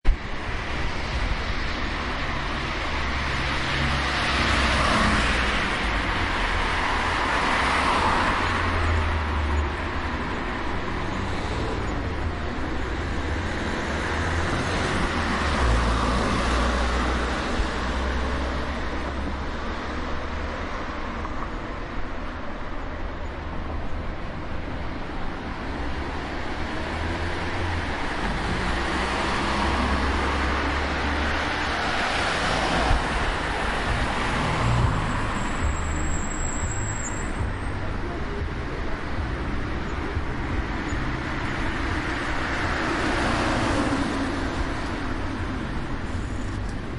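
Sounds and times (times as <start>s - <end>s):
cars passing by: 0.0s - 46.9s.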